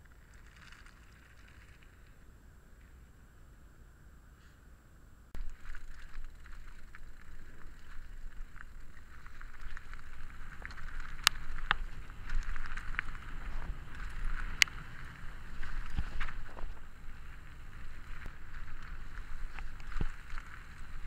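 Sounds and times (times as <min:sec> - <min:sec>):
bike rattling over stones: 0:00.0 - 0:02.2, 0:05.4 - 0:21.0
bike tyres crunching on gravel: 0:00.0 - 0:02.2, 0:05.4 - 0:21.0
low wind rumble: 0:00.0 - 0:21.0.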